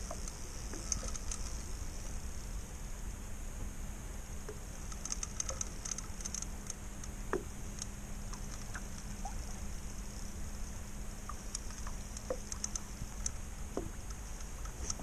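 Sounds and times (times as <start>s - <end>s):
waves lapping against boat hull: 0.0s - 2.5s, 4.4s - 15.0s
faint high ticks and clicks: 0.0s - 2.6s, 4.4s - 15.0s
low wind rumble and hum: 0.0s - 15.0s.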